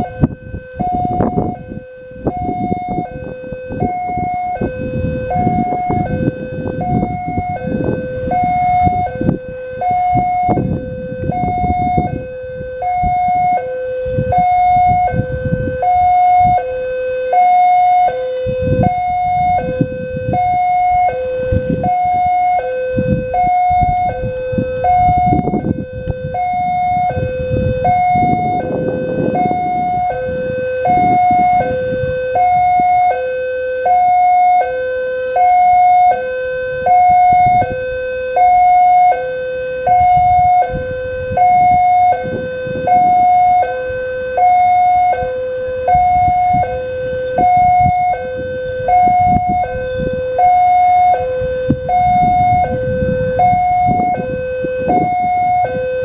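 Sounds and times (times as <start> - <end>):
two-tone crossing alarm: 0.0 - 56.0.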